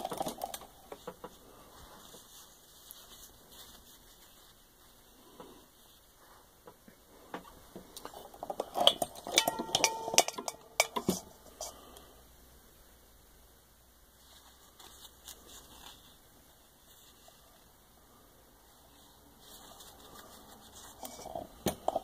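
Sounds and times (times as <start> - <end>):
faint handling sounds: 0.0 - 12.3, 14.0 - 22.0.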